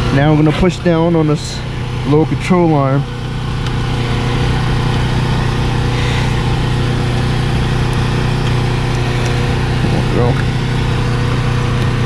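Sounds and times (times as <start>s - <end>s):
motor humming steadily: 0.0s - 12.0s.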